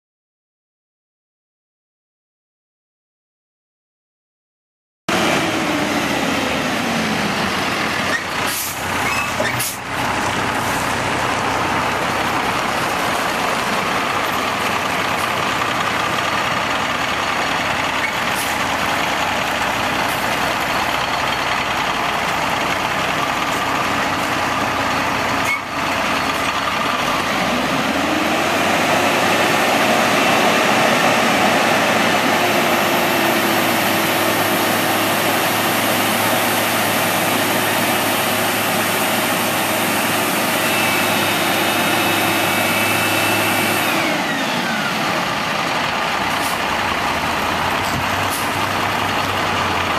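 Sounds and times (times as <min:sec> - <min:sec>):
diesel truck engine running: 0:05.1 - 0:49.9.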